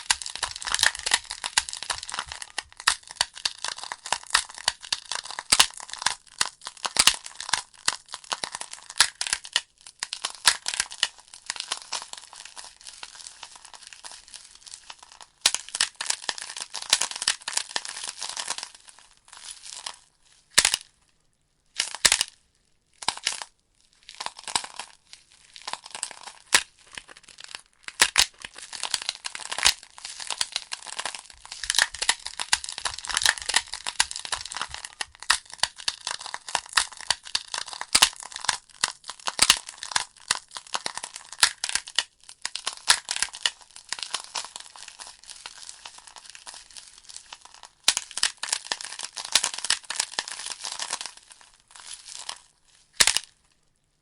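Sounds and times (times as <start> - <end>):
logs crackling and popping: 0.0 - 22.3, 23.0 - 53.9.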